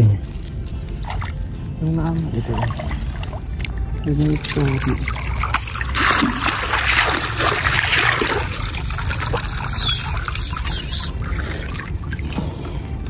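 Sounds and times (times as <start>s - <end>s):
water streaming and dripping from net: 1.0s - 13.0s.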